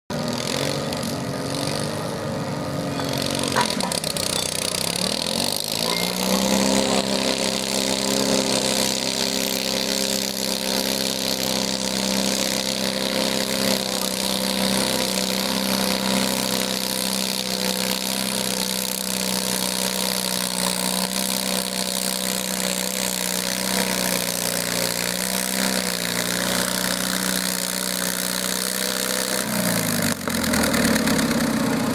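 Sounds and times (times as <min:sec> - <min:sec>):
tractor engine revving: 0:00.1 - 0:31.9.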